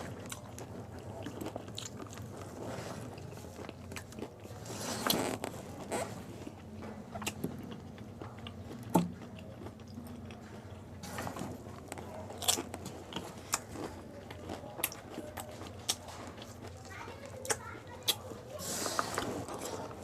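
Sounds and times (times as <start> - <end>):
crunching and wet chewing: 0.0 - 20.0.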